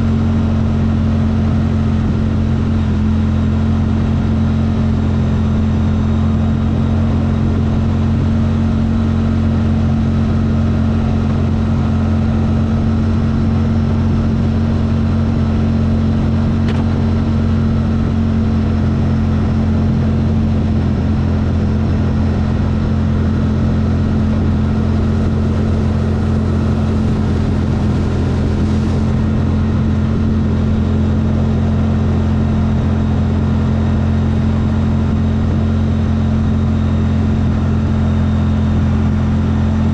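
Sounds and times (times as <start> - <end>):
vehicle engine running steadily: 0.0 - 39.9.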